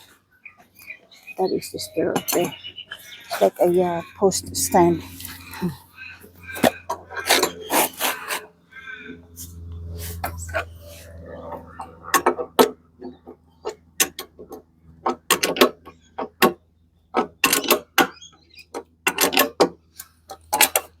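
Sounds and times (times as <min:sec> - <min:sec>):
low steady hum: 0:00.0 - 0:17.2.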